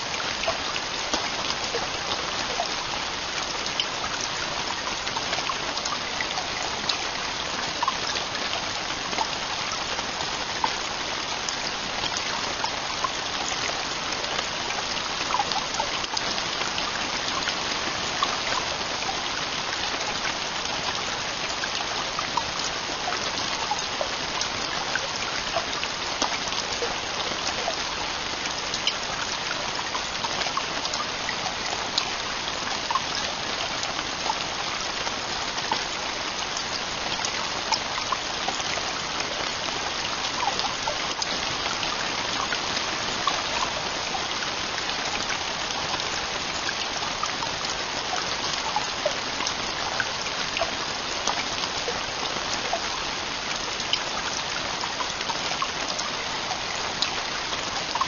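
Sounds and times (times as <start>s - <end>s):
raindrops ticking: 0.0s - 58.0s.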